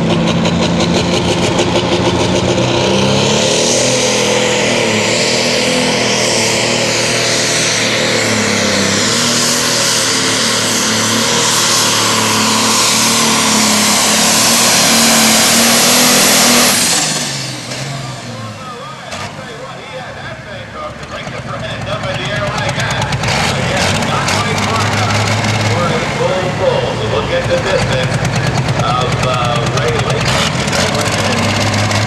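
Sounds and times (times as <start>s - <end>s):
tractor diesel engine at full power: 0.0s - 32.0s.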